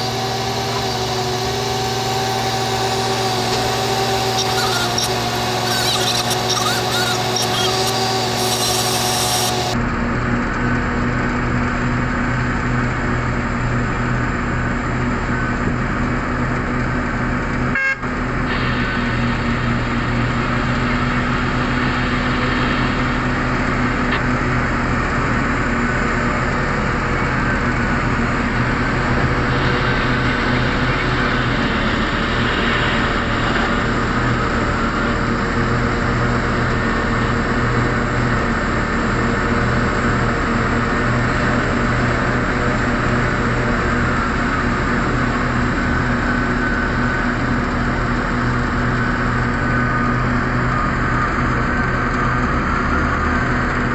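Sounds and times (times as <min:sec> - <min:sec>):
heavy diesel engines droning: 0:00.0 - 0:53.9.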